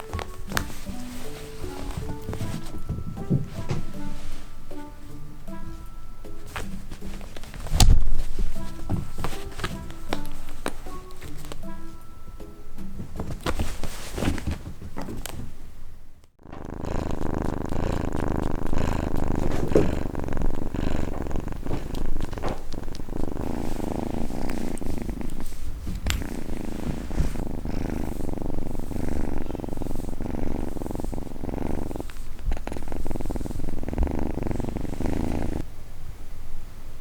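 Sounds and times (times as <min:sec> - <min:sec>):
cat purring: 0:00.0 - 0:35.8.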